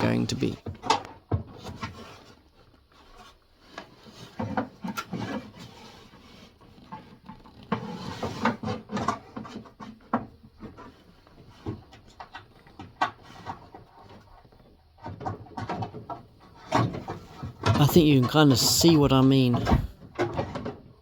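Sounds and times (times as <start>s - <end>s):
knocks and scrapes on wood: 0.6s - 18.9s.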